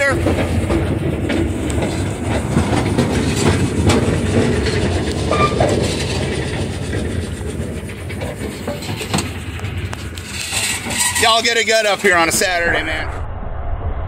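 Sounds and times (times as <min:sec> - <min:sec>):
wheels clicking and knocking: 0:00.0 - 0:12.3
train low rumble: 0:00.0 - 0:14.0.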